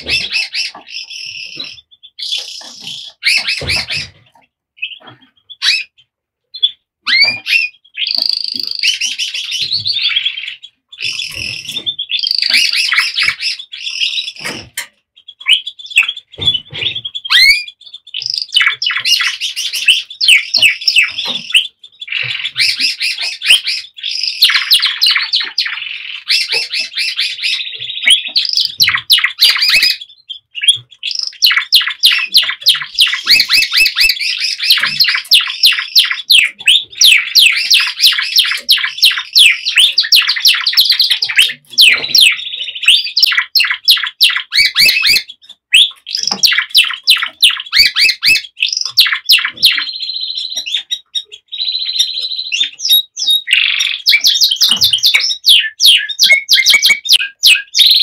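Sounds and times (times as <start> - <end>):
canary singing fast trills: 0.0 - 58.0.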